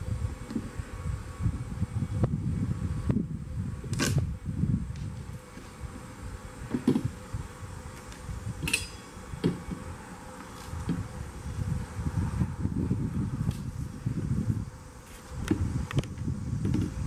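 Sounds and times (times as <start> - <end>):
faint insect drone: 0.0 - 17.0
wind rumbling on microphone: 0.0 - 17.0.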